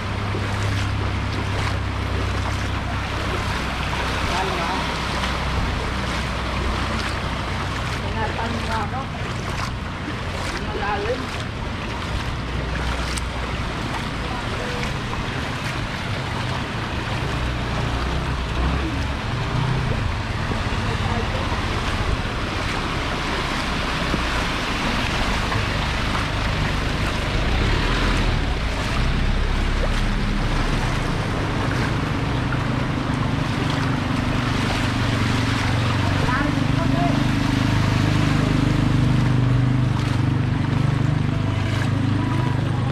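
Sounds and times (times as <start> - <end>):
engine hum: 0.0 - 42.9
water sloshing and splashing: 0.0 - 42.9.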